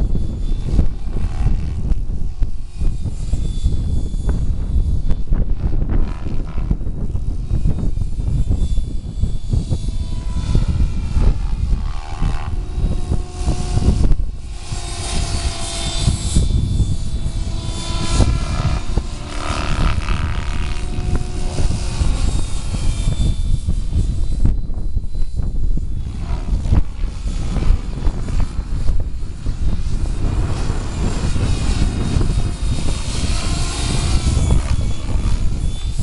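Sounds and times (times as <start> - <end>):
model helicopter motor whine: 0.0 - 36.0
wind buffeting microphone: 0.0 - 36.0.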